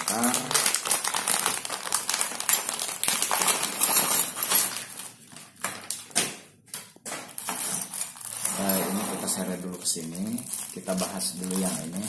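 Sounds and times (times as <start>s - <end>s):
plastic packaging crinkling: 0.0s - 6.4s, 7.0s - 12.0s.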